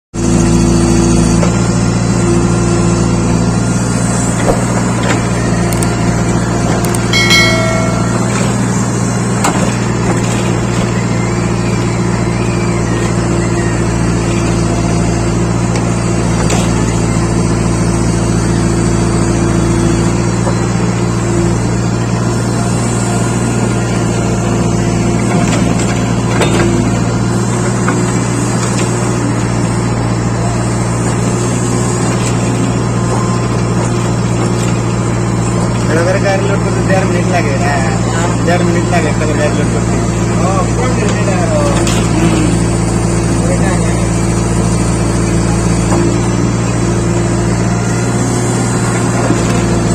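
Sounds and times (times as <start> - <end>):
vehicle engine drone: 0.2 - 49.9.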